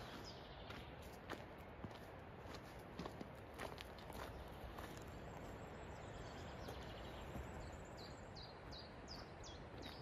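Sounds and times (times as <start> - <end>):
faint outdoor background noise: 0.0 - 10.0.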